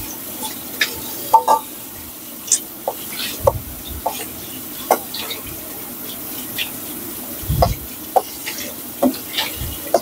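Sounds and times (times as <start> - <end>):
fish sizzling in a pan: 0.0 - 10.0.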